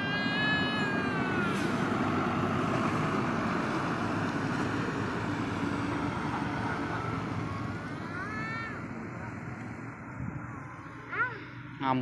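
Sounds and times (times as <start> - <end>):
heavy vehicle passing: 0.0 - 12.0.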